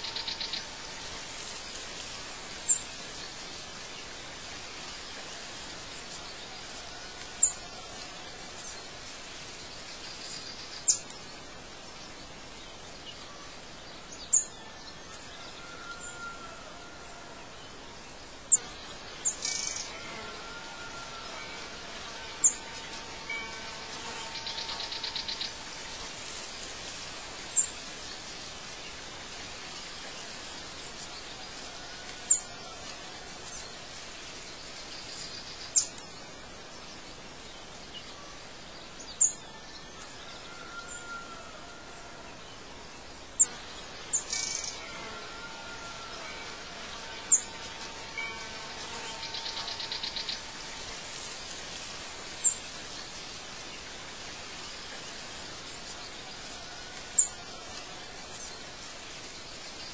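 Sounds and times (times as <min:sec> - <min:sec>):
steady soft hiss: 0:00.0 - 0:59.9.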